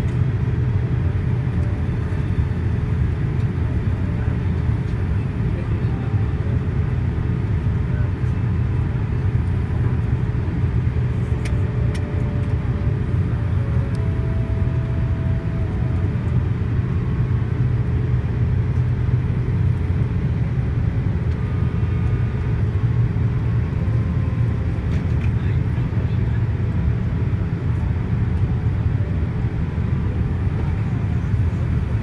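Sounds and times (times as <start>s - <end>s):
airliner cabin low rumble: 0.0s - 32.0s.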